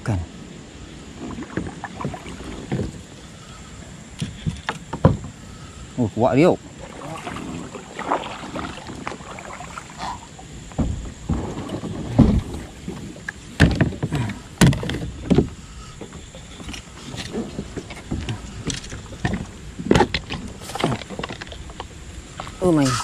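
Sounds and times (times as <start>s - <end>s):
rushing river water: 0.0s - 23.0s
water splashing against a kayak: 0.3s - 23.0s.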